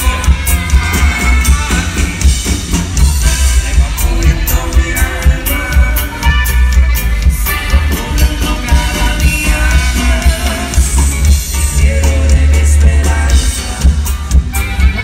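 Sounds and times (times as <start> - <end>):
heavy boomy bass: 0.0 - 15.0
live band playing: 0.0 - 15.0.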